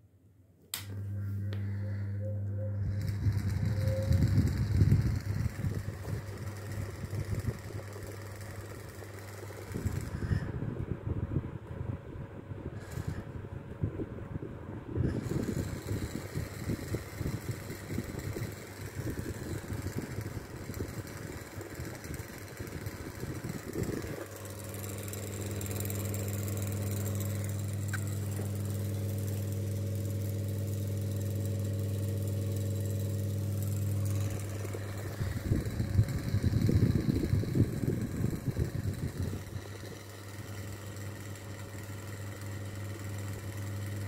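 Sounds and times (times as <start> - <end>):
fan air buffeting microphone: 0.7 - 44.0
electric motor hum: 0.8 - 44.0.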